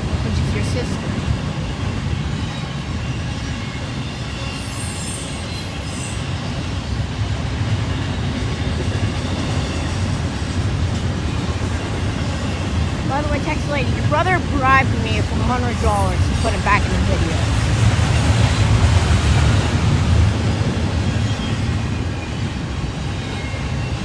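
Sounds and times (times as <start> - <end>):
freight train cars rolling past: 0.0 - 24.0.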